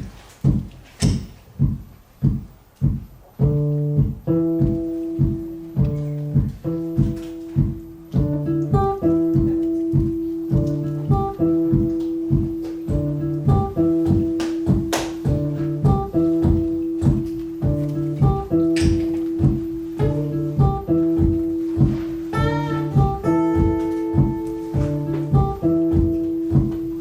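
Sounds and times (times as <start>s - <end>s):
steady beat: 0.0s - 27.0s
ringing guitar chords: 3.4s - 27.0s.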